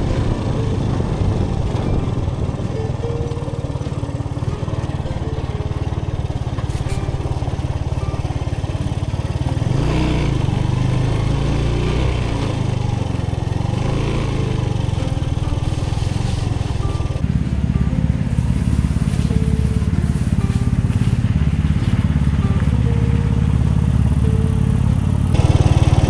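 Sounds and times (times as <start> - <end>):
motorcycle engine running at low speed: 0.0 - 26.0.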